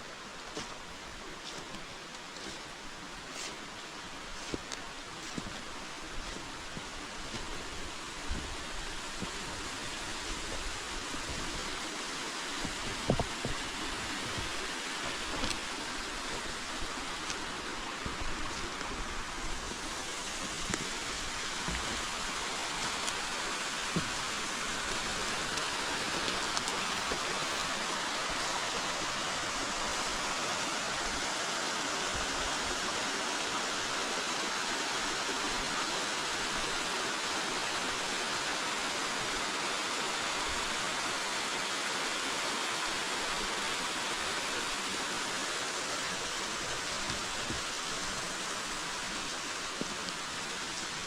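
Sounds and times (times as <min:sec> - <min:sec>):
river water flowing: 0:00.0 - 0:51.0.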